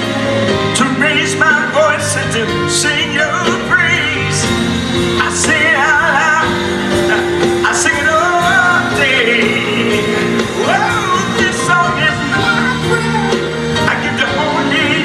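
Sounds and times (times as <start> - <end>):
live band playing: 0.0 - 15.0
man singing soul with vibrato: 0.0 - 15.0.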